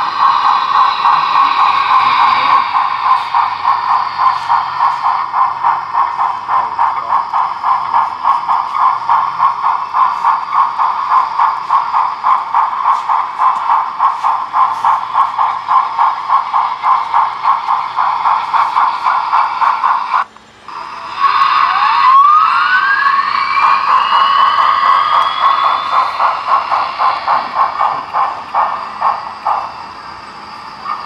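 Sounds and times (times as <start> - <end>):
model steam locomotive chuffing: 0.0 - 31.0.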